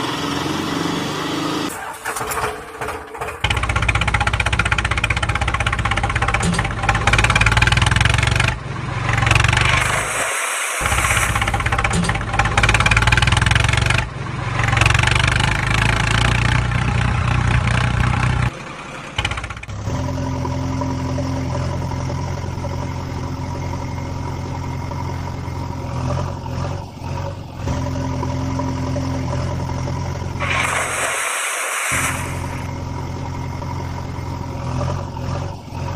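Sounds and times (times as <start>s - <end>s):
heavy vehicle engine running: 0.0s - 35.9s.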